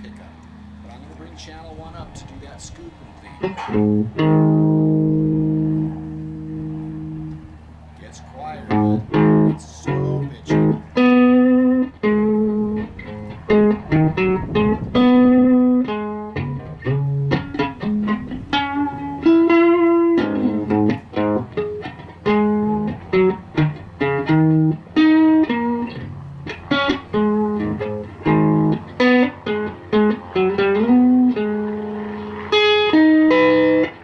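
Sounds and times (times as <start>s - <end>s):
electric guitar single notes: 0.0s - 2.0s, 2.9s - 34.0s.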